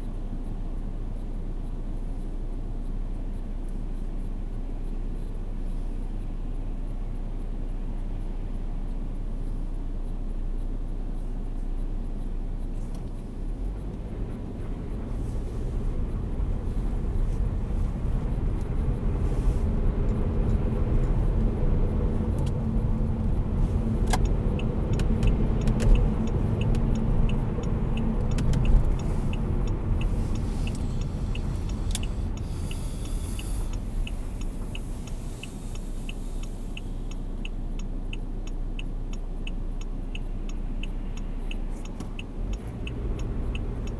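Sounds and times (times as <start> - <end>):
car engine and tyre rumble: 0.0 - 43.9
turn signal ticking: 0.0 - 43.9.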